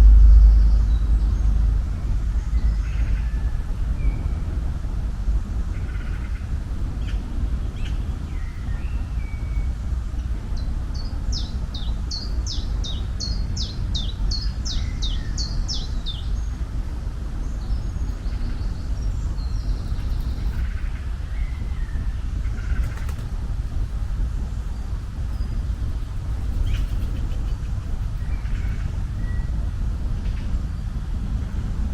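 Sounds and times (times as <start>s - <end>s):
songbird singing: 0.0s - 4.5s, 5.8s - 31.0s
steady low rumble: 0.0s - 31.9s.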